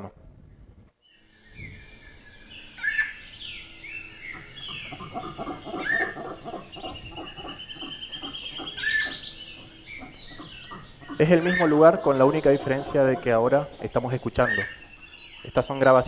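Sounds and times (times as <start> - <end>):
loud upslurred bird call: 1.1 - 16.0
many birds calling: 1.1 - 16.0
fast bird trill: 1.2 - 16.0.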